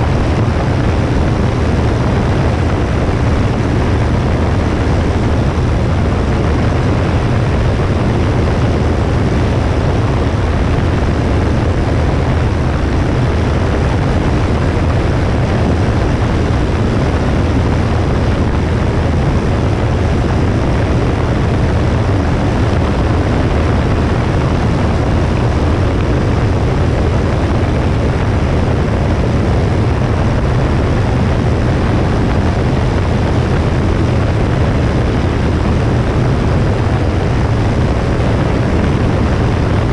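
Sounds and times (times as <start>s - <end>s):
airplane engine and propeller drone: 0.0s - 39.9s
wind rushing on microphone: 0.0s - 39.9s.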